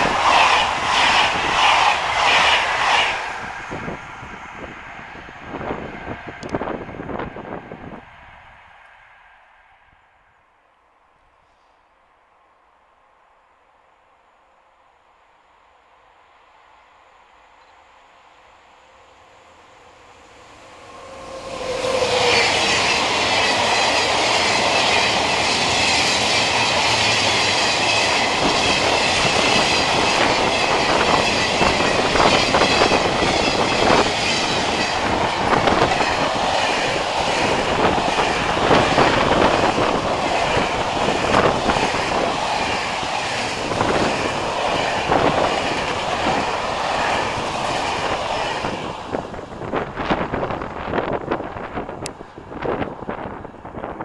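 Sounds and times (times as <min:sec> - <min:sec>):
steel wheels rushing on rail: 0:00.0 - 0:10.4, 0:16.2 - 0:54.0.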